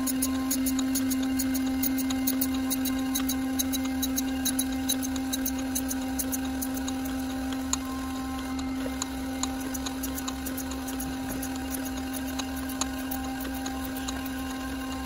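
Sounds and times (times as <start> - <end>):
grinder hum: 0.0 - 15.0
grinding wheel crackling on metal: 0.0 - 15.0.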